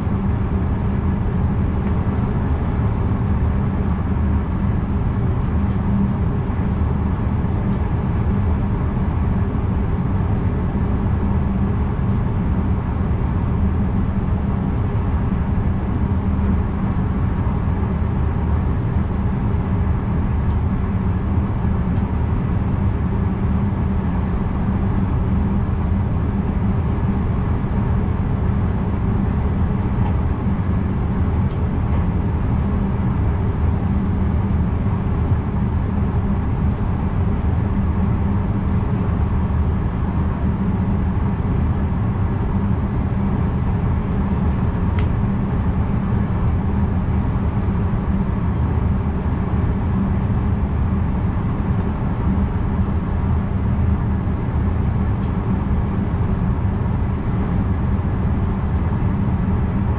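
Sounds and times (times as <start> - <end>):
electric train rumble and hum: 0.0 - 59.9.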